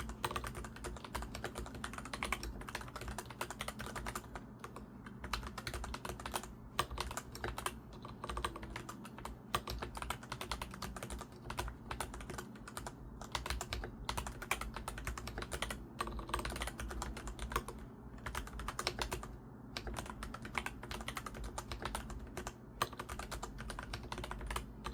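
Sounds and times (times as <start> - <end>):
fast typing on mechanical keyboard: 0.0 - 24.9.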